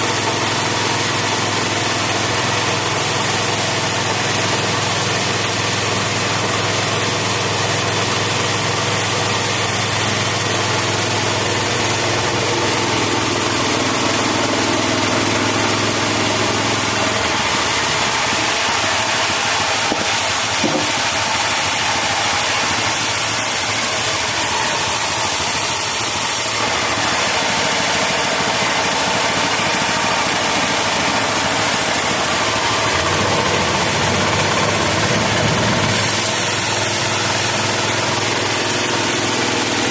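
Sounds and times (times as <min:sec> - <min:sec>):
engine driving a bandsaw mill: 0:00.0 - 0:39.9.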